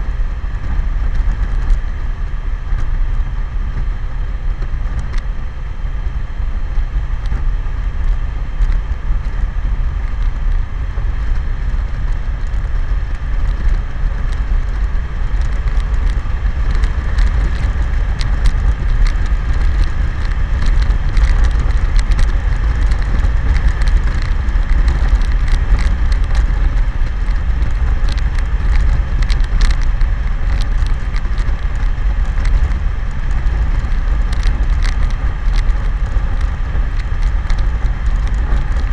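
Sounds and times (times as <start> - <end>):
road noise: 0.0 - 38.9
wind rumble on microphone: 0.0 - 38.9.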